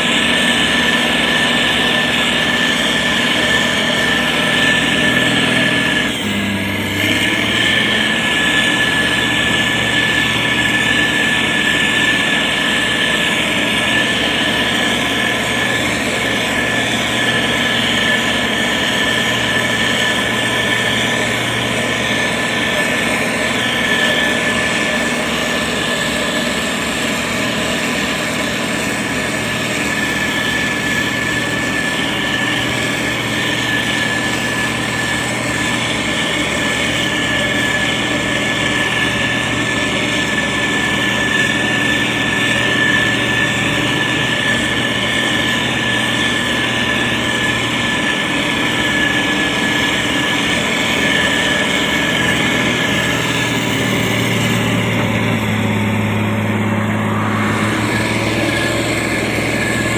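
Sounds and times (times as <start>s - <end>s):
high whine: 0.0s - 59.9s
motor grader diesel engine running: 0.0s - 59.9s.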